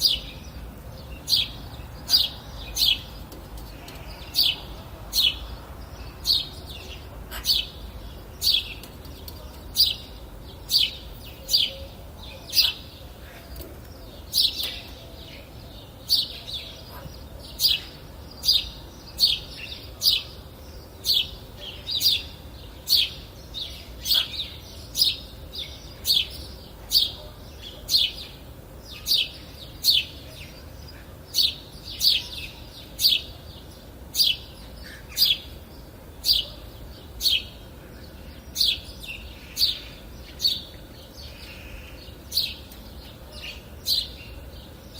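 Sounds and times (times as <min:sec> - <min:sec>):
songbird chirping: 0:00.0 - 0:44.9.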